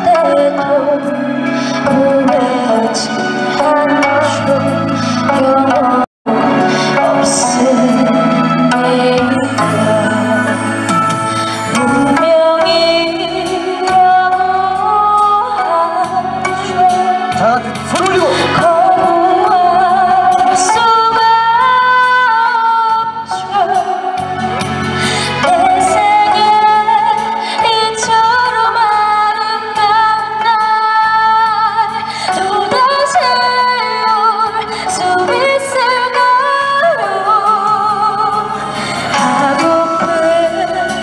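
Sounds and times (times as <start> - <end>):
woman singing a ballad: 0.0 - 17.4, 18.3 - 41.0.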